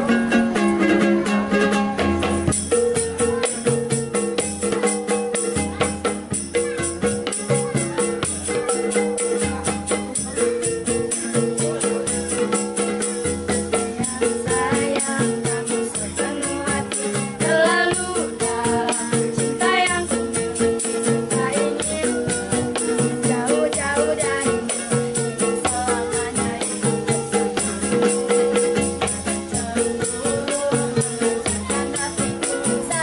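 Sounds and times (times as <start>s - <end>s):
hand drum thumps: 0.0s - 33.0s
ukulele strumming: 0.0s - 33.0s
tambourine jingling: 2.2s - 33.0s
voices singing: 2.7s - 33.0s.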